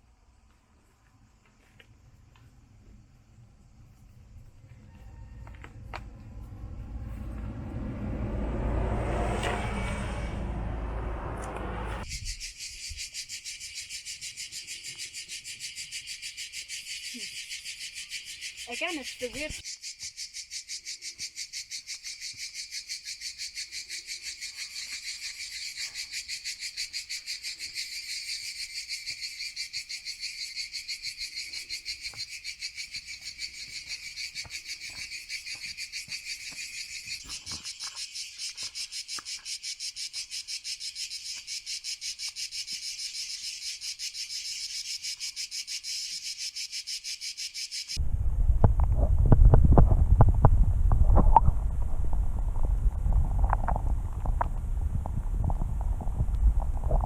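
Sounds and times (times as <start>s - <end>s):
cicadas chorus: 0.0s - 48.0s.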